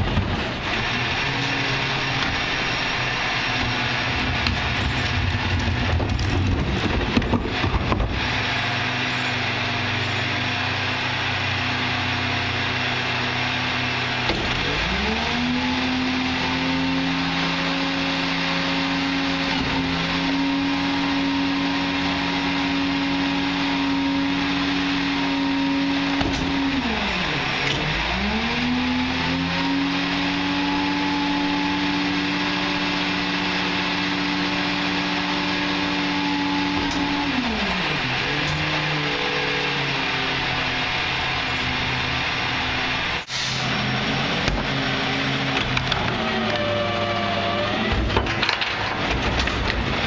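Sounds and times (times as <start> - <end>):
garbage truck diesel engine: 0.0 - 50.0.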